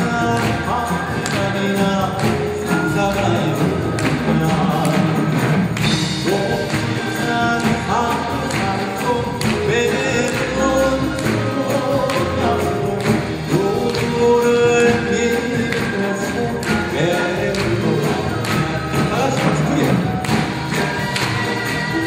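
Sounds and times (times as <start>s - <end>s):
percussion strokes: 0.0s - 22.0s.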